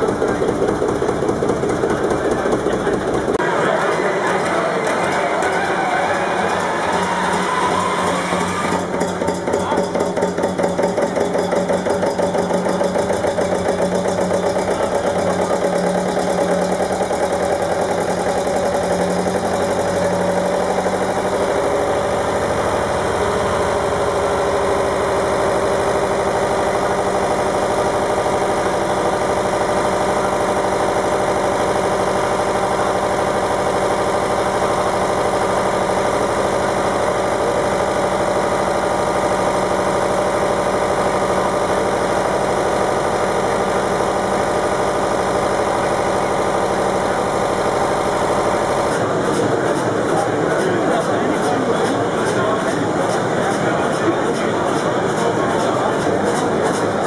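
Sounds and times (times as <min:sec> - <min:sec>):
diesel engine starting and idling: 0:00.0 - 0:57.0.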